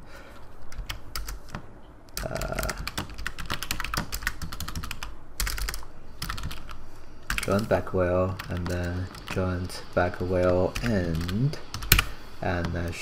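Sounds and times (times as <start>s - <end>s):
computer keyboard typing: 0.7s - 13.0s.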